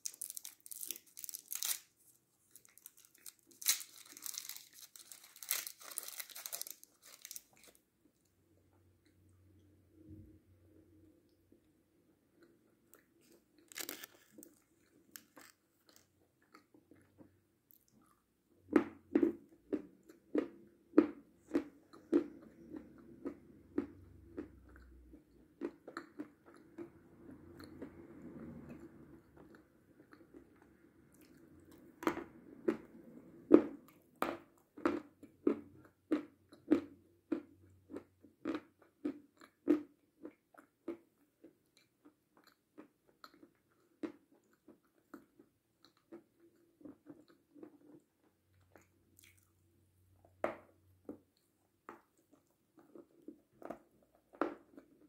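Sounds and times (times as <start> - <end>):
chewing candy with crunches: 0.0 - 8.3, 11.6 - 55.0.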